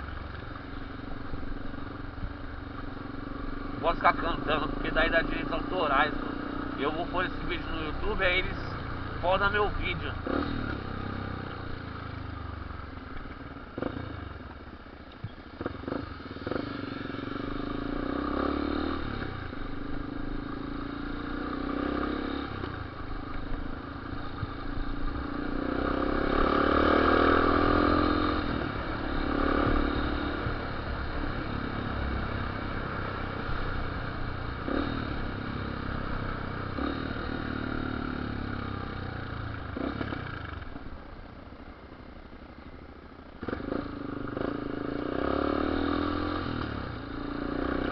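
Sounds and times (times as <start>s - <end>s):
motorcycle engine revving: 0.0s - 41.0s, 43.4s - 47.9s.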